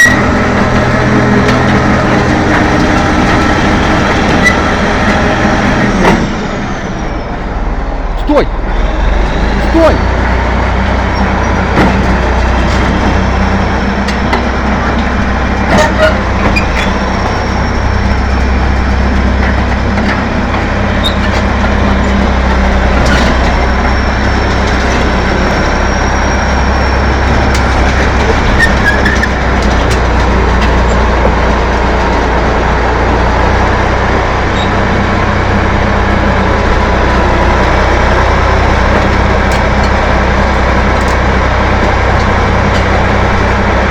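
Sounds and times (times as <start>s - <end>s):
bulldozer diesel engine rumbling: 0.0s - 43.9s.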